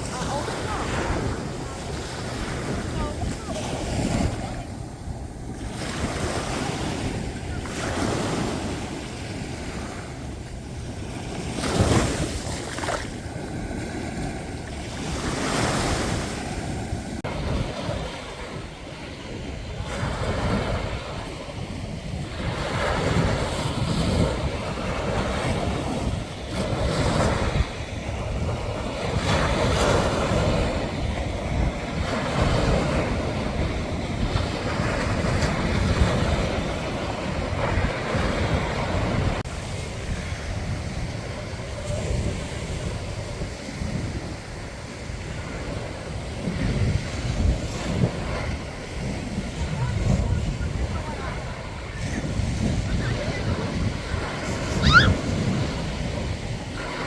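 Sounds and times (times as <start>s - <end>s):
ocean waves breaking: 0.0s - 57.0s
wind buffeting microphone: 0.0s - 57.0s.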